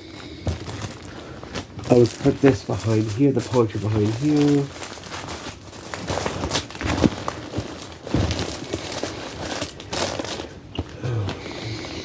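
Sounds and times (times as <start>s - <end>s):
plastic package crinkling: 0.1s - 12.0s.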